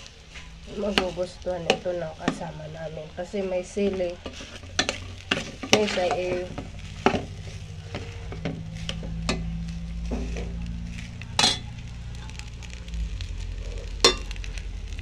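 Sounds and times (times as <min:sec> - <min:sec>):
rice sizzling in a pan: 0:00.0 - 0:15.0.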